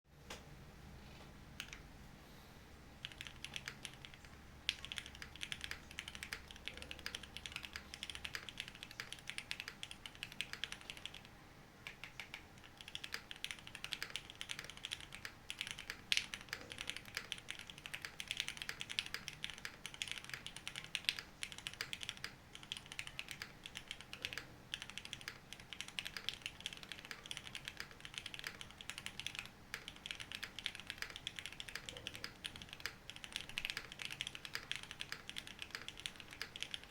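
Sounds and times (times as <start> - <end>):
mechanical keyboard typing: 1.6 - 1.8, 3.0 - 36.9.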